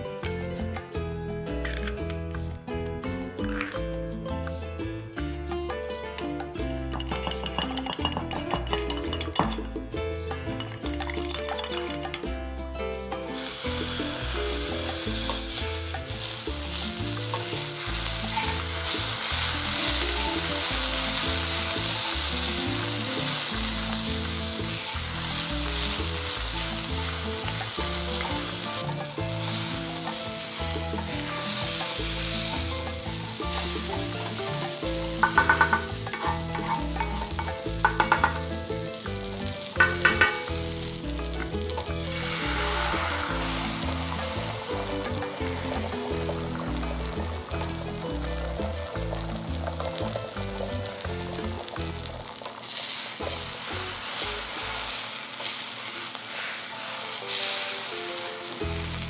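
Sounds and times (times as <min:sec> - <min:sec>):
background music: 0:00.0 - 0:59.0
vegetables sizzling: 0:06.8 - 0:12.4, 0:13.0 - 0:59.0.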